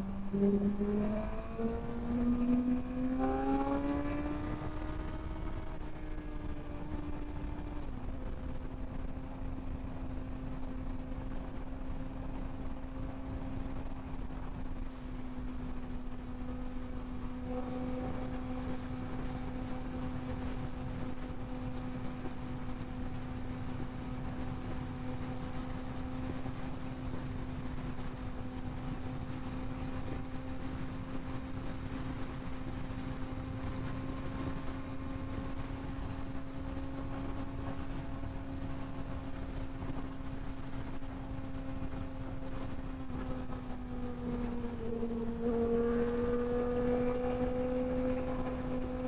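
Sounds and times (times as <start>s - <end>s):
motorcycle engine cruising: 0.0s - 49.0s
wind and road noise: 0.0s - 49.0s.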